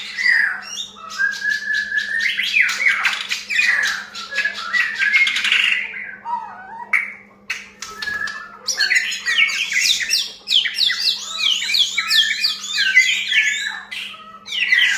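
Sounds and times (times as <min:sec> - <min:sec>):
bird singing whistled notes: 0:00.0 - 0:07.2, 0:07.8 - 0:14.9
bird harsh calls: 0:00.0 - 0:14.9.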